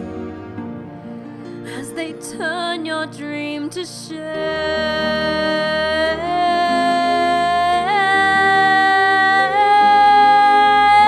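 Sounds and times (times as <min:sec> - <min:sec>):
woman singing long note: 0:02.1 - 0:11.0.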